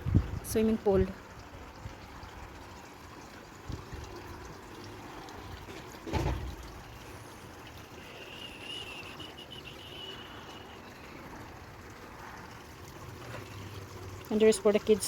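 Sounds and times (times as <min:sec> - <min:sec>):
trickle of running water: 0:00.0 - 0:15.0.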